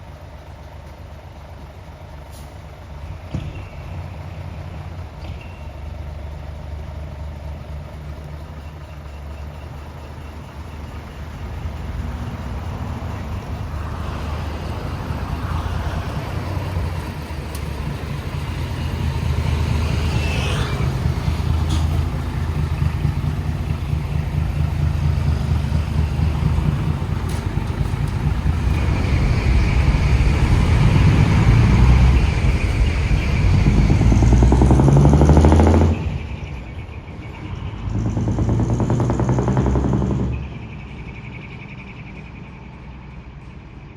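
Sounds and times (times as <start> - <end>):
diesel truck exhaust: 0.0 - 43.9.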